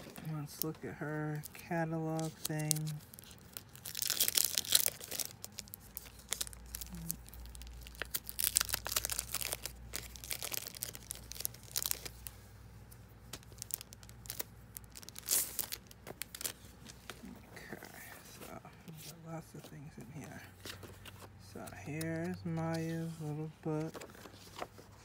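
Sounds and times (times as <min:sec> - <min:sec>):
plastic packaging crinkling: 0:00.0 - 0:12.4, 0:13.2 - 0:19.1, 0:20.1 - 0:25.0.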